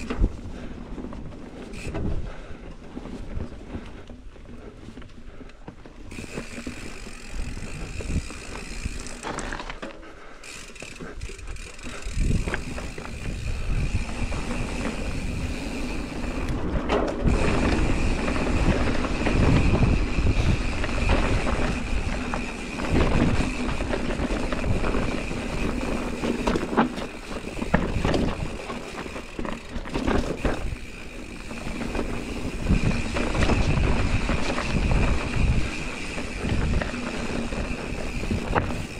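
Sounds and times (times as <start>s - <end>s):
bike tyres rumbling over dirt: 0.0s - 38.9s
bike knocks and rattles: 5.7s - 38.9s.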